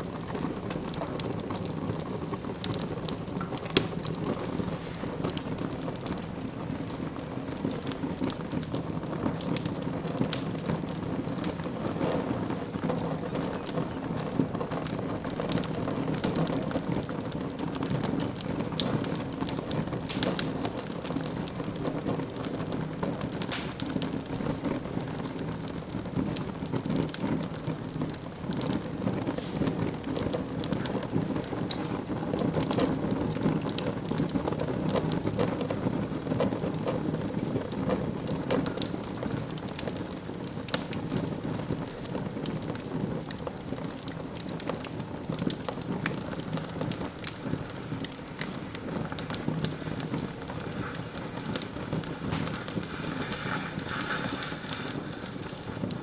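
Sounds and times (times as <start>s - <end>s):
sharp snaps of fire: 0.0s - 56.0s
wood fire crackling: 0.0s - 56.0s.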